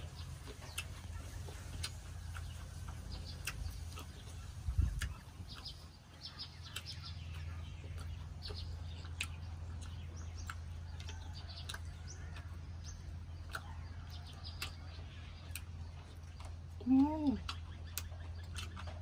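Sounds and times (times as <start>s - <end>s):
birds chirping: 0.0s - 19.0s
eating and utensil clicks: 0.0s - 19.0s
steady low hum: 0.0s - 19.0s.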